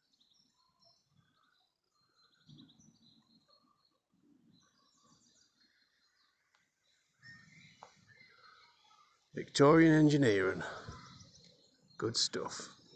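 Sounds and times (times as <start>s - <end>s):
faint birdsong: 0.0s - 12.9s.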